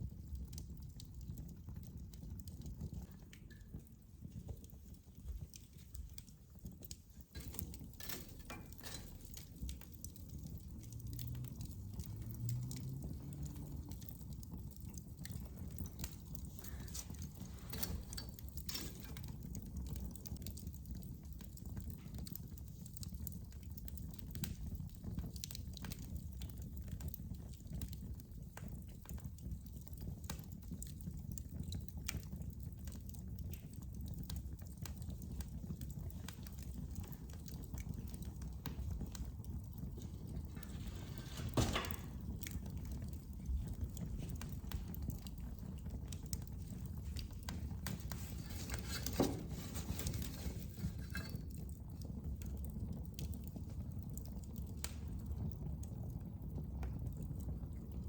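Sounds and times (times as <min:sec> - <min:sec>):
low steady fire rumble: 0:00.0 - 0:58.0
wood fire crackling and popping: 0:00.0 - 0:58.0.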